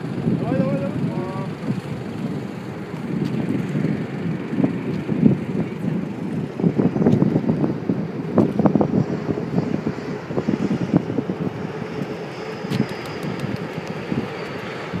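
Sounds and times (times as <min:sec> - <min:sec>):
distant jet engines: 0:00.0 - 0:15.0
high engine whine: 0:00.0 - 0:15.0
wind buffeting microphone: 0:00.0 - 0:15.0.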